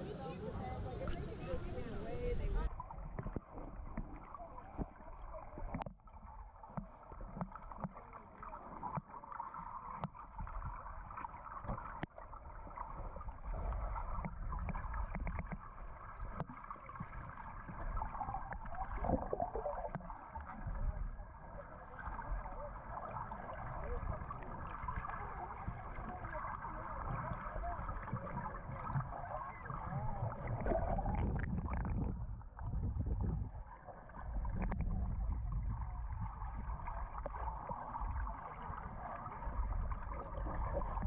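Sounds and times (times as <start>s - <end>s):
underwater rumble and gurgling: 0.0s - 41.0s.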